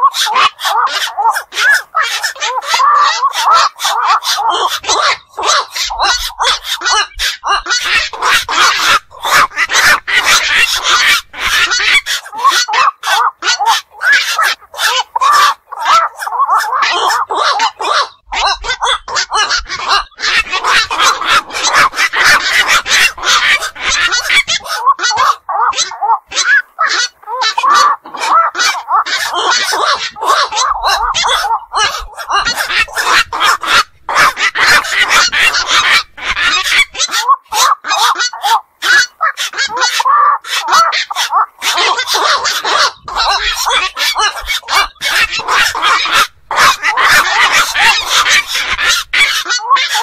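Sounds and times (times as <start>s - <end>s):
heron calls: 0.0s - 50.0s.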